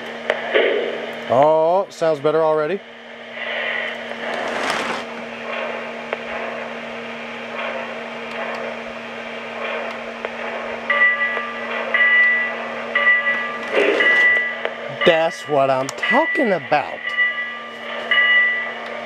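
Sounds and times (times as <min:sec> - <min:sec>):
low hum: 0:00.0 - 0:19.0
model steam locomotive running: 0:00.0 - 0:19.0.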